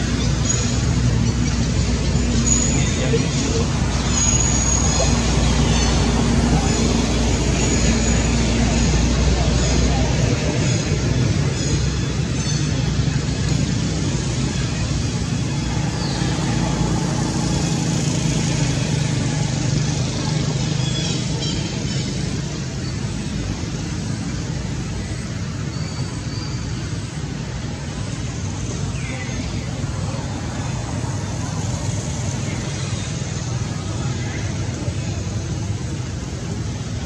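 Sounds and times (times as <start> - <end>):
low engine hum: 0.0 - 37.0
road noise: 0.0 - 37.0.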